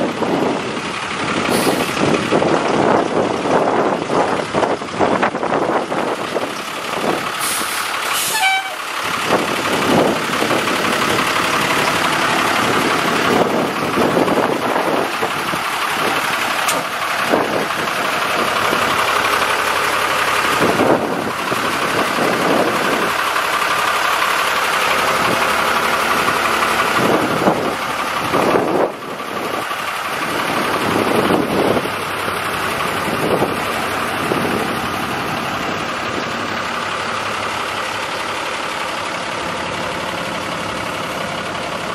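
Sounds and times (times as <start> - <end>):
loud engine running: 0.0 - 41.9.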